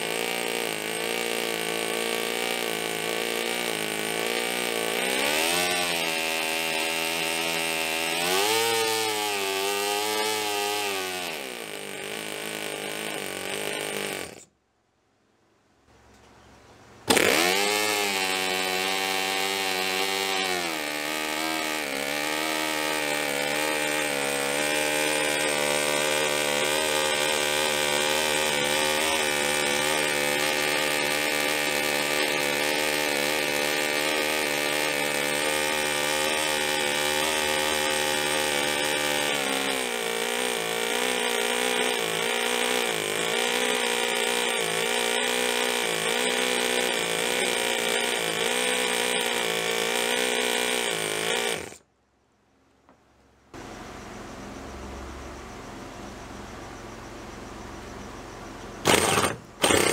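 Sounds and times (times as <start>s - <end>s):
small engine running: 0.0s - 14.5s, 17.1s - 51.8s, 58.5s - 59.9s.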